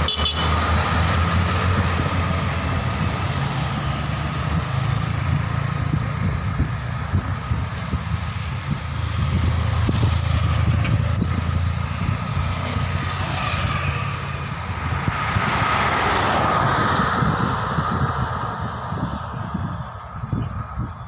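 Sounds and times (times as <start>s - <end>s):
motorcycles passing: 0.0s - 21.0s
vehicle engine and tyre rush: 0.0s - 21.0s.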